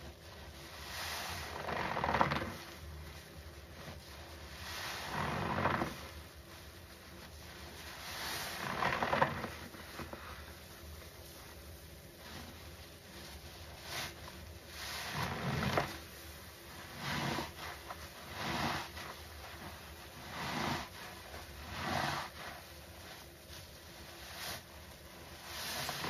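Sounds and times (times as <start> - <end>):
wet sponge squelching: 0.0 - 26.0.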